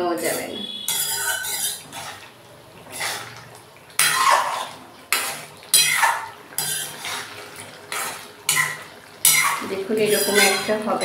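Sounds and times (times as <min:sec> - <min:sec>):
wooden spoon scraping metal pan: 0:00.1 - 0:02.3, 0:02.9 - 0:03.4, 0:04.0 - 0:11.0.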